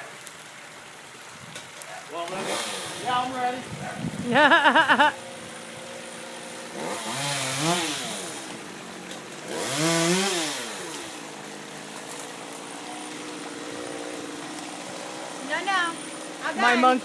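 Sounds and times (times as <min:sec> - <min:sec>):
chainsaw engine revving and idling: 0:02.2 - 0:17.0.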